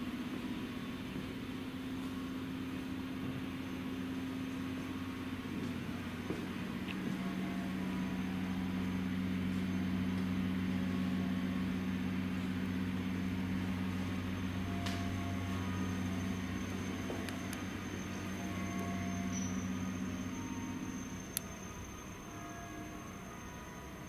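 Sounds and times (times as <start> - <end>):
low droning hum: 0.0 - 24.0.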